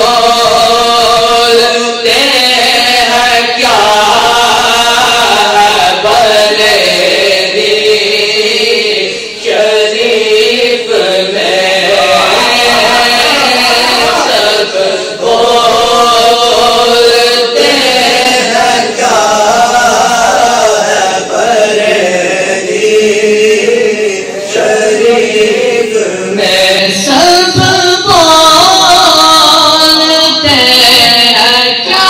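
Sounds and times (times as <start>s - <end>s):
men chanting unaccompanied: 0.0s - 32.0s.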